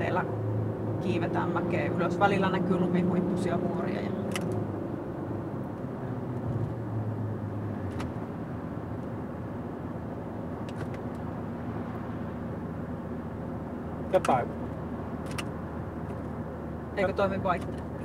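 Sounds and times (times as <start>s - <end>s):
diesel engine pulling uphill: 0.0s - 18.0s.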